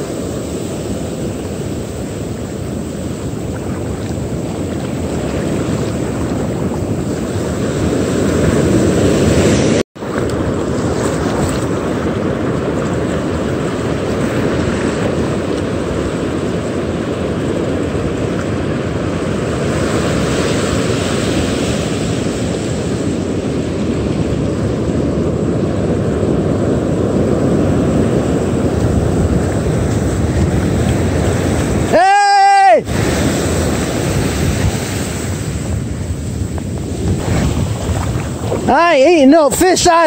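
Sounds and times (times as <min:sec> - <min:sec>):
ocean surf breaking: 0:00.0 - 0:40.0
wind buffeting microphone: 0:00.0 - 0:40.0.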